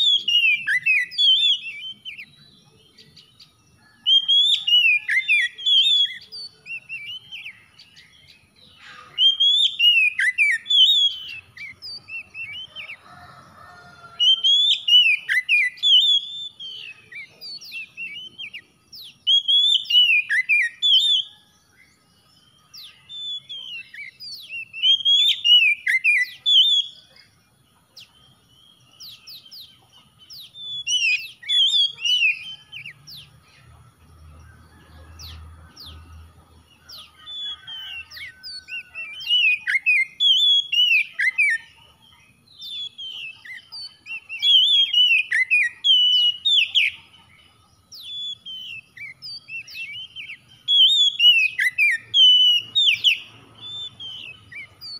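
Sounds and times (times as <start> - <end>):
songbird whistling song: 0.0 - 54.9.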